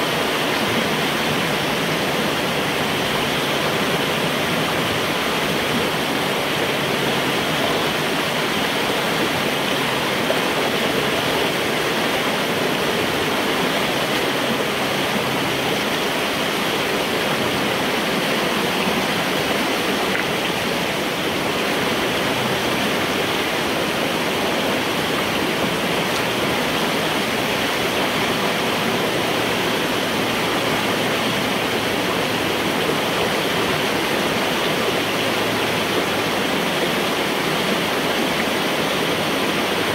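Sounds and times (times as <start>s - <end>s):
water rushing through a pipe: 0.0s - 39.9s.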